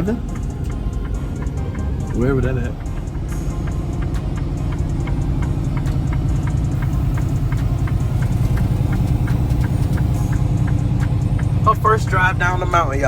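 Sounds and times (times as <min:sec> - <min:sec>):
light ticking: 0:00.0 - 0:13.0
truck engine running: 0:00.0 - 0:13.0.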